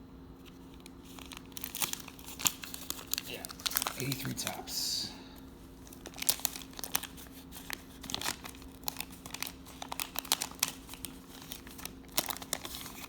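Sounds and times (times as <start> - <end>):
wax paper wrapper tearing and crinkling: 0.4 - 4.8, 5.6 - 13.0.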